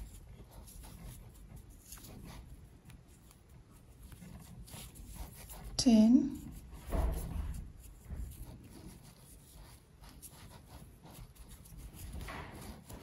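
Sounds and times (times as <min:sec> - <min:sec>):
yarn rustling with crochet hook: 0:00.0 - 0:13.0.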